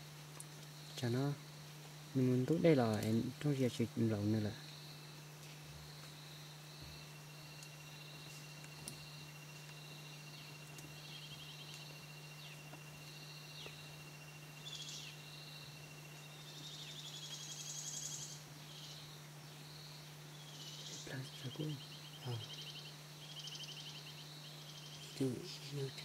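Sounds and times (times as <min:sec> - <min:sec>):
insect chirping pulses: 0:00.0 - 0:26.0
steady low hum: 0:00.0 - 0:26.0
insect high trill: 0:00.8 - 0:26.0.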